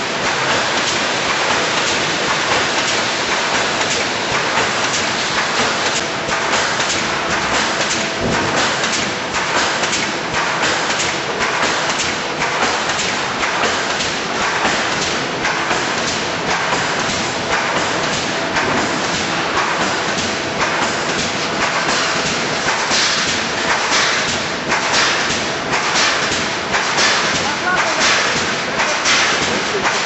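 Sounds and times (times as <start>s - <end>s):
welding machine clattering: 0.0s - 30.0s.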